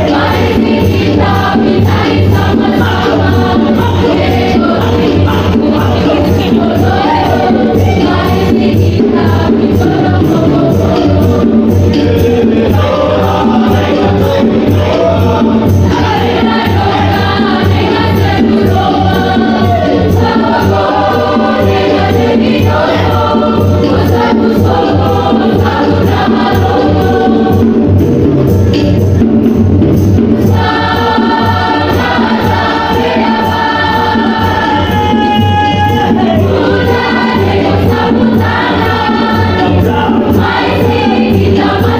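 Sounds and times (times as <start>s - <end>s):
mixed choir singing: 0.0s - 28.1s, 30.3s - 41.9s
steady beat: 0.0s - 41.9s.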